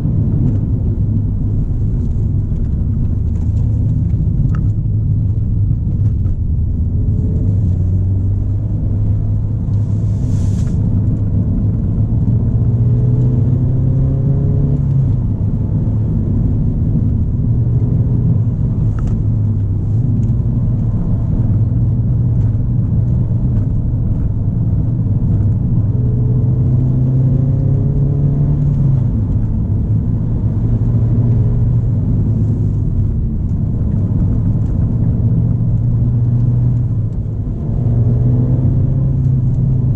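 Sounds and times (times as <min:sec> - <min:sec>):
road and tyre rumble: 0:00.0 - 0:39.9
turbocharged car engine accelerating: 0:00.0 - 0:39.9.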